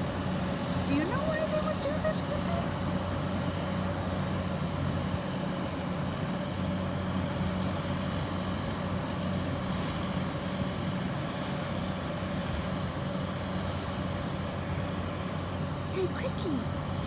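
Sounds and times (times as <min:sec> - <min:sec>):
bulldozer engine running: 0:00.0 - 0:17.0.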